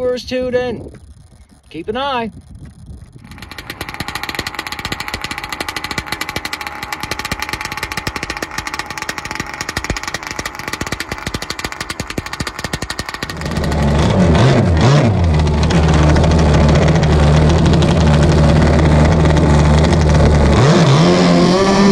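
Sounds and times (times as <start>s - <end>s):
small two-stroke boat engine: 0.8s - 21.9s.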